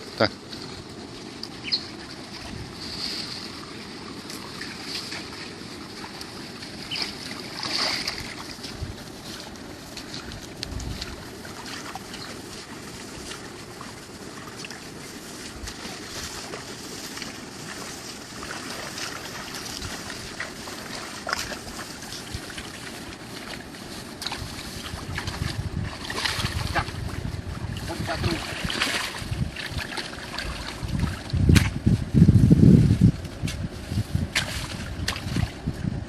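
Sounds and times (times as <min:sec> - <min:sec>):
water: 0:00.0 - 0:36.0
wind buffeting microphone: 0:00.8 - 0:36.0
small splashes: 0:01.5 - 0:09.4, 0:10.0 - 0:31.8, 0:34.3 - 0:35.6.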